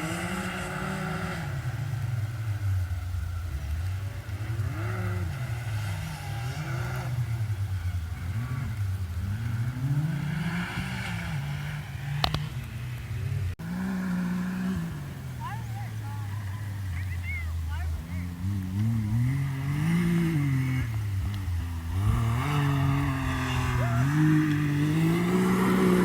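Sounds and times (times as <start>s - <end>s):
utility vehicle engine revving: 0.0s - 26.0s.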